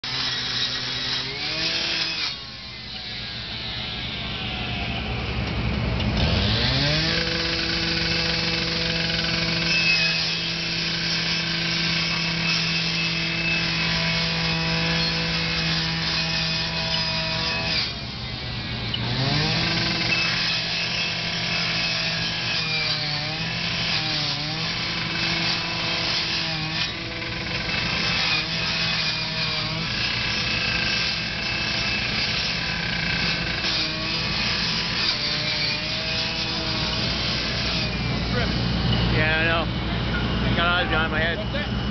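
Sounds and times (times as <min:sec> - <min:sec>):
cut-off saw cutting metal: 0:00.0 - 0:04.8, 0:06.1 - 0:39.7.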